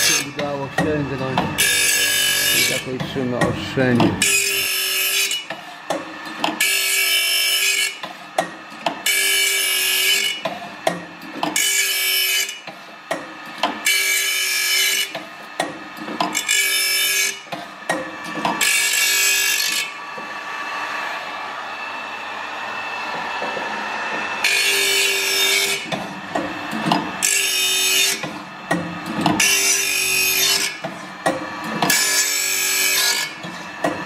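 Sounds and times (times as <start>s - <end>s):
grinding wheel grinding saw tips: 0.0s - 21.2s, 22.7s - 34.0s.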